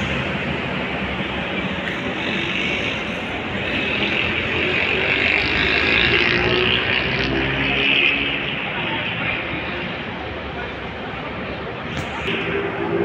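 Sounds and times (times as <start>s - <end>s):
bus engine and tyres: 0.0s - 13.0s
traffic rumble: 0.0s - 13.0s.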